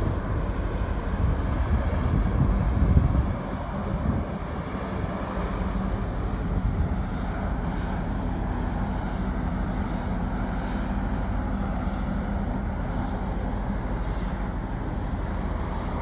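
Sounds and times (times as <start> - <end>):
boat engine drone: 0.0 - 16.0
wind and water noise: 0.0 - 16.0.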